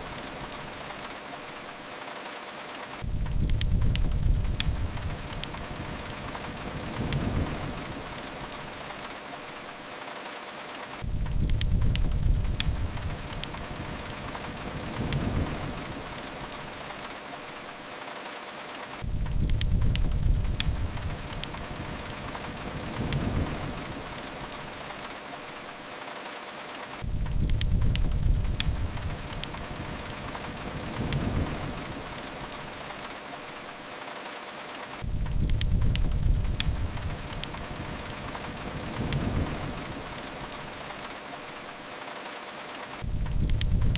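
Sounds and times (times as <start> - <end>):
faint fireplace crackles: 0.0 - 43.9
rain hiss: 0.0 - 43.9.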